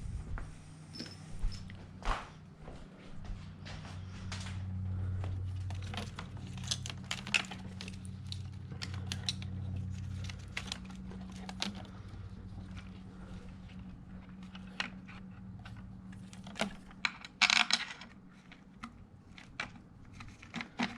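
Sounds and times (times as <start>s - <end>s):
steady low hum: 0.0s - 20.9s
engine parts clicking and tapping: 3.7s - 20.9s.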